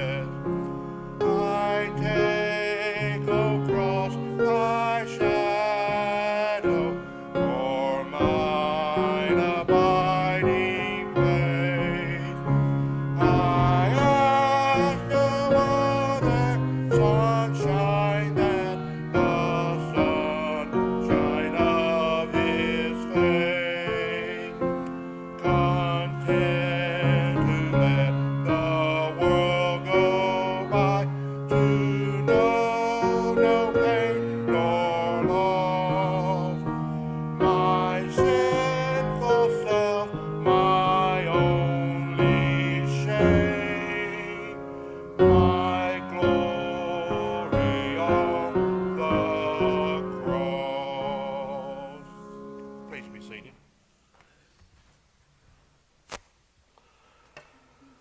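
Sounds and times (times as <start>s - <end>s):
voices singing a hymn: 0.0s - 53.5s
piano accompaniment: 0.0s - 53.6s.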